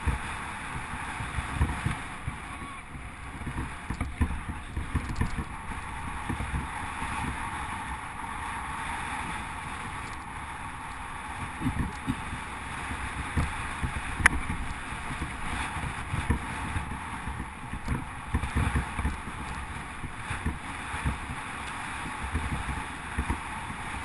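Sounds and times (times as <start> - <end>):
bike knocks and rattles: 0.0 - 8.3, 9.2 - 24.0
wind and tyre noise on gravel: 0.0 - 24.0.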